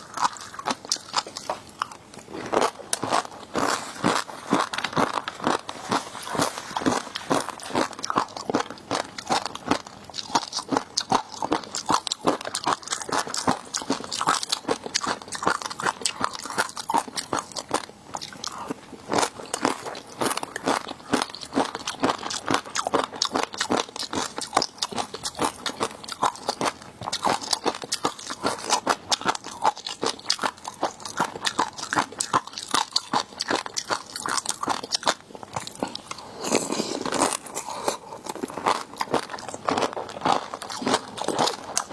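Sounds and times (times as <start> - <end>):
crunching and chewing food: 0.0 - 41.9.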